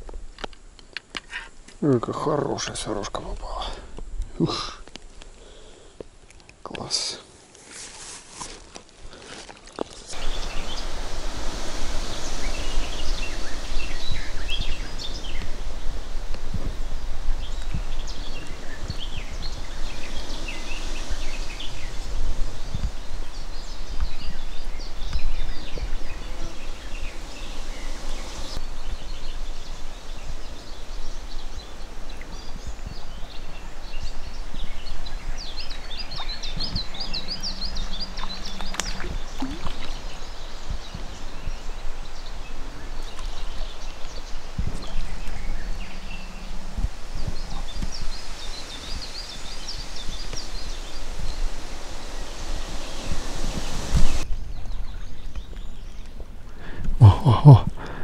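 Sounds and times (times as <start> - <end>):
small birds singing: 9.1 - 58.0
wind noise on microphone: 10.1 - 58.0.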